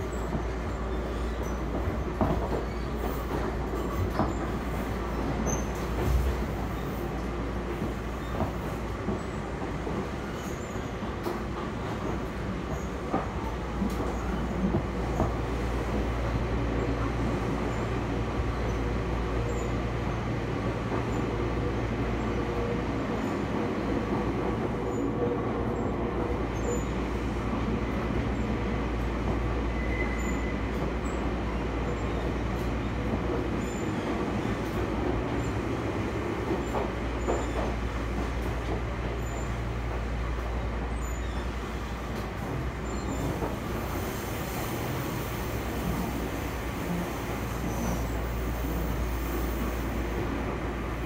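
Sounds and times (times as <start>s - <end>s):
train wheels and motors rumbling: 0.0s - 51.0s.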